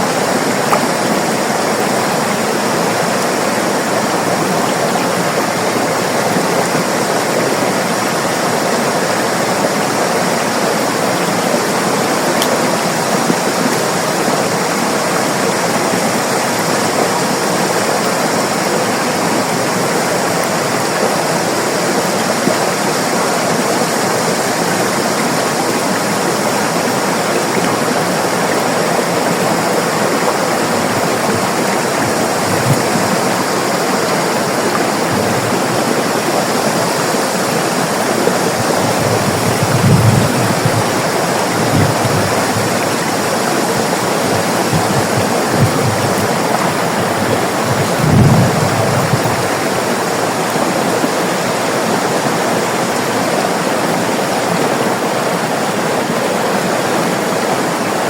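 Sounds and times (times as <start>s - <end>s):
low water gurgles and thumps: 0.0s - 53.6s
river rushing over rocks: 0.0s - 58.0s.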